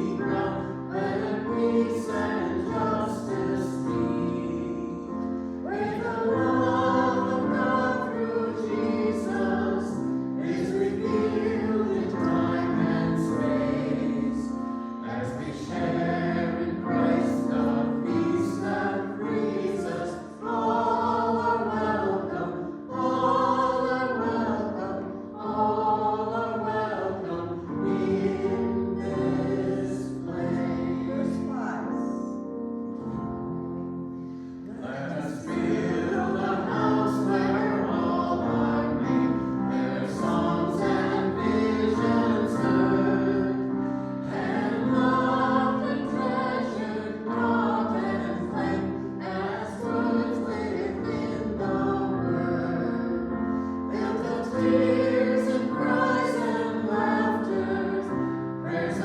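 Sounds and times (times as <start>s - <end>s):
held accompaniment notes: 0.0s - 59.0s
voices singing a hymn: 0.0s - 59.0s.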